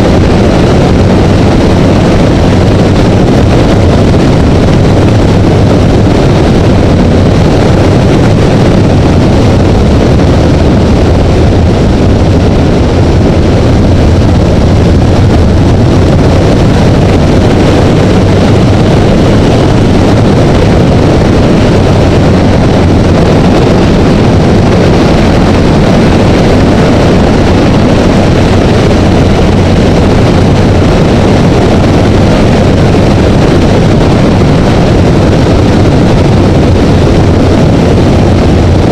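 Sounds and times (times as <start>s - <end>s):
motorcycle engine drone: 0.0s - 38.9s
wind and road noise: 0.0s - 38.9s.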